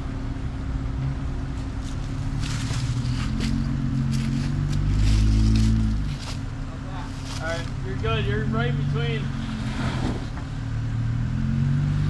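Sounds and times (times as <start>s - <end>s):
car engine working under load: 0.0s - 12.0s.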